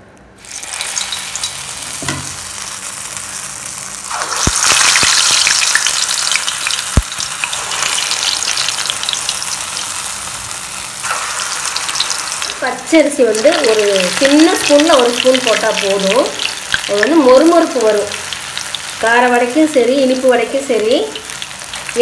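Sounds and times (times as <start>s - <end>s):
food sizzling in hot oil: 0.4s - 22.0s.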